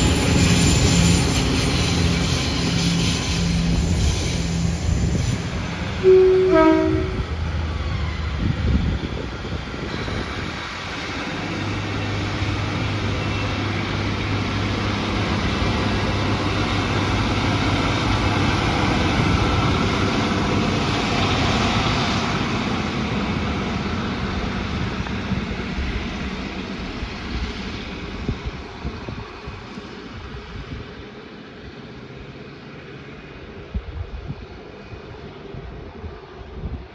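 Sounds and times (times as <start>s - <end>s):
train passing: 0.0s - 36.9s.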